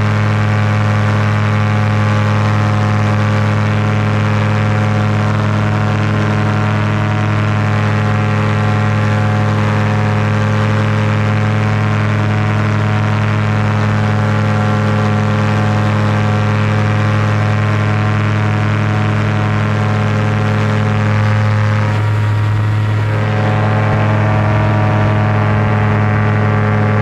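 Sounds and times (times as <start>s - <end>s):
paramotor engine and propeller: 0.0s - 27.0s.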